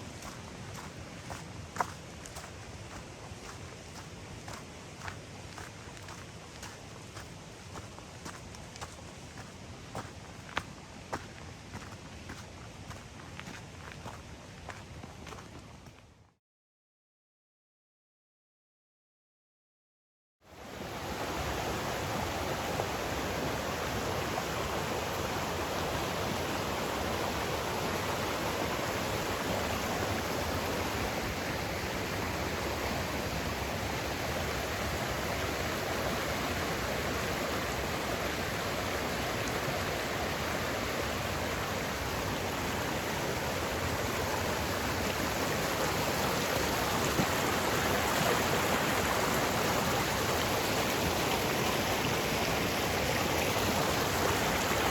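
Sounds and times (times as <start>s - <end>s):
creek water rushing: 0.0s - 15.6s, 20.6s - 54.9s.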